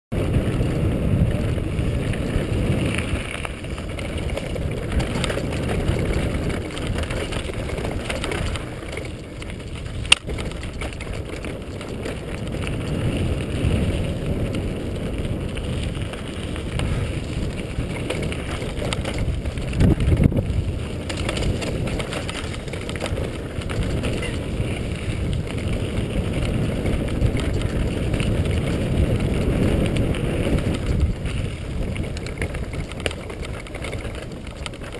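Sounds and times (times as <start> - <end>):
bike tyres rattling on gravel: 0.1 - 34.9
wind on microphone: 0.1 - 34.9.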